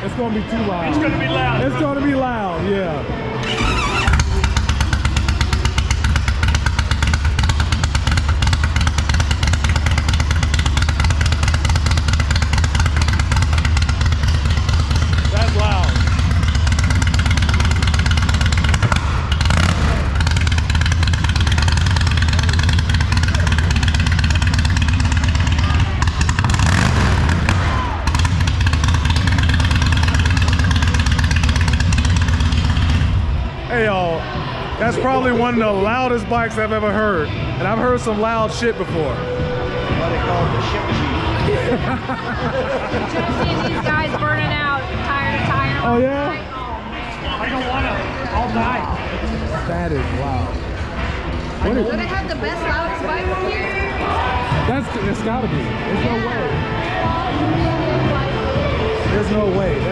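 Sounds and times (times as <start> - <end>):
motorcycle engine running: 3.4 - 46.5, 48.2 - 59.9.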